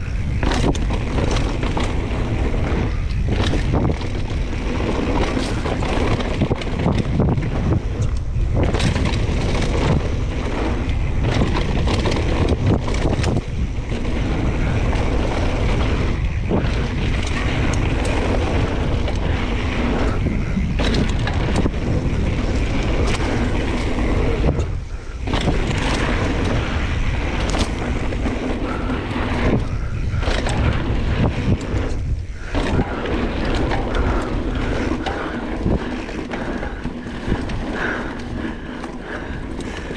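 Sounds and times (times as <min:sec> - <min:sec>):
bike rattles and clicks: 0:00.0 - 0:39.9
tyre noise on dirt: 0:00.0 - 0:39.9
wind buffeting microphone: 0:00.0 - 0:39.9.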